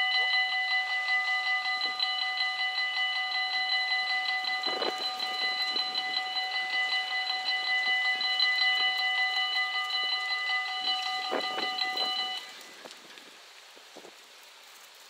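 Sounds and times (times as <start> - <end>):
level crossing warning bells: 0.0 - 13.3.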